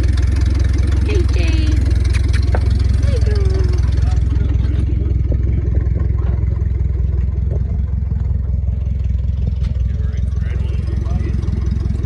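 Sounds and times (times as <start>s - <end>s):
engine clatter knocks: 0.0s - 12.0s
engine idling: 0.0s - 12.0s.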